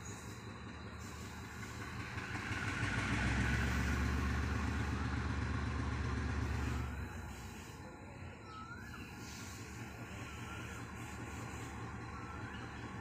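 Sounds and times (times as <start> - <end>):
engine running with low rumble: 0.0 - 13.0.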